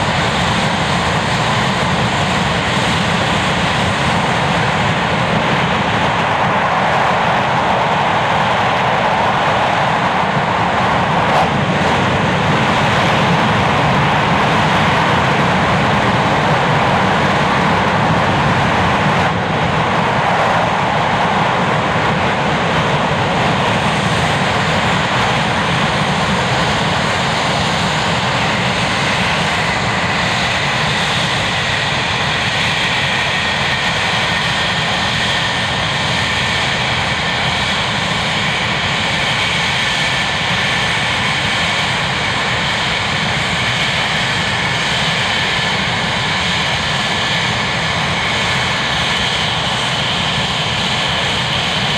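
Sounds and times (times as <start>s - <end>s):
high turbine whine: 0.0s - 51.9s
jet engine roar: 0.0s - 51.9s.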